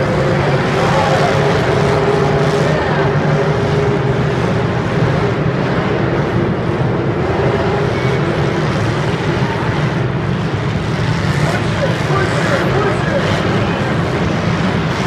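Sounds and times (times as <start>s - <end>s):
many car engines running: 0.0s - 15.0s.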